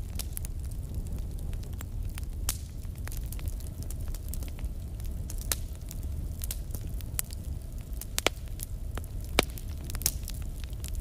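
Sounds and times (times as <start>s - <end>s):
fire crackling and popping: 0.0s - 11.0s.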